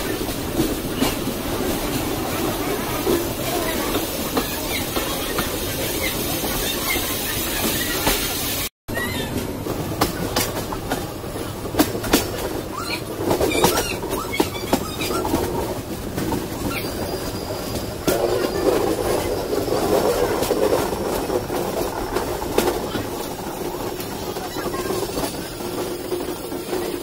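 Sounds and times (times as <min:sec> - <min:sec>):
train wheels rumbling on rails: 0:00.0 - 0:27.0
wheels clicking over rail joints: 0:00.0 - 0:27.0.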